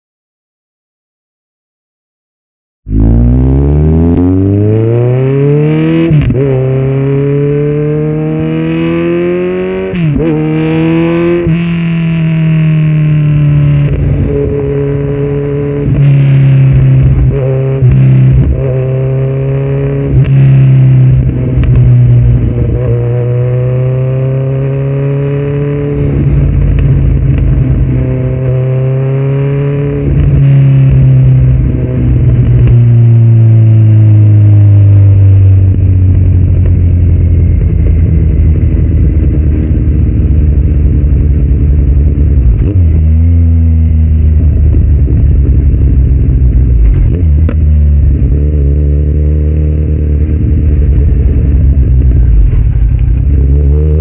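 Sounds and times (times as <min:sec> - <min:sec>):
motorcycle engine revving: 0:02.9 - 0:54.0.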